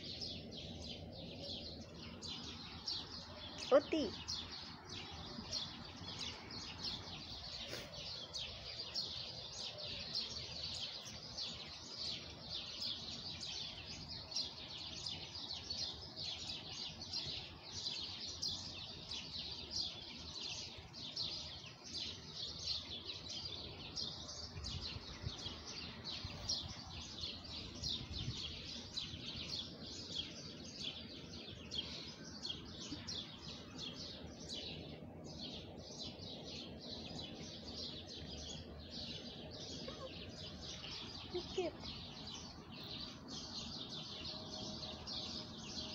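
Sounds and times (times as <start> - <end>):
many birds chirping: 0.0 - 45.9.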